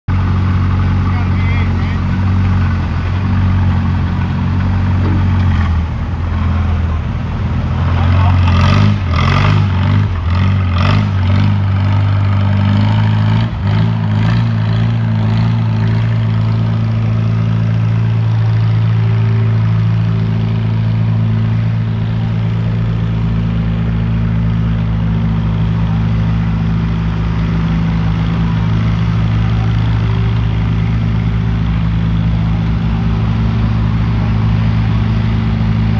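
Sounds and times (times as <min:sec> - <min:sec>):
large engine revving and clattering: 0:00.1 - 0:35.9.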